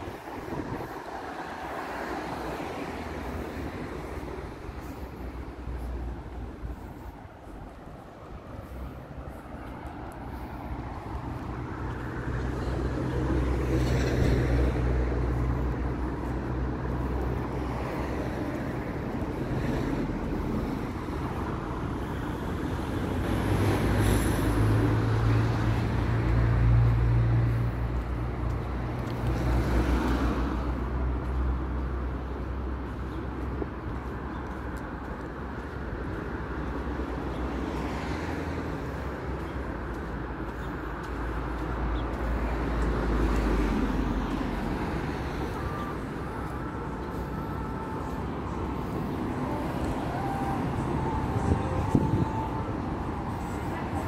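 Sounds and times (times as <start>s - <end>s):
cars passing: 0.0s - 54.0s
road noise: 0.0s - 54.0s.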